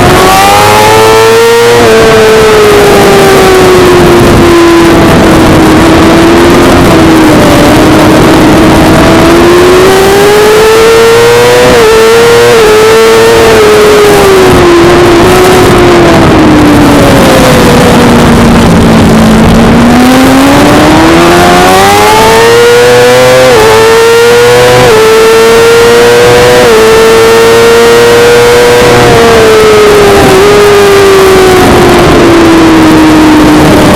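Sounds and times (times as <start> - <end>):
motorcycle engine revving high: 0.0 - 33.9
wind rush: 0.0 - 33.9.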